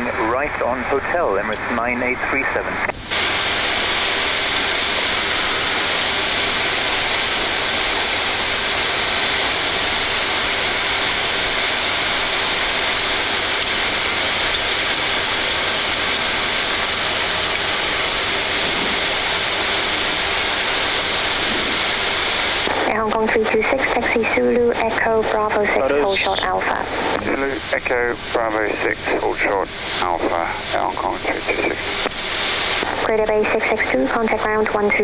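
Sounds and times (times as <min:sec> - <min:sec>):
jet engines rushing: 0:00.0 - 0:34.9.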